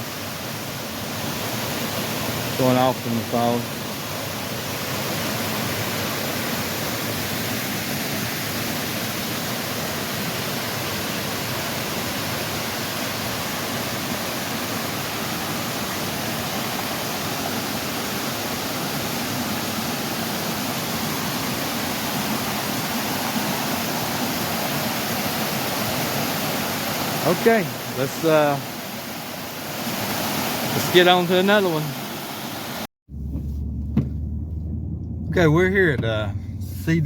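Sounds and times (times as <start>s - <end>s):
waterfall rushing: 0.0s - 32.9s
rapids running: 0.1s - 34.4s.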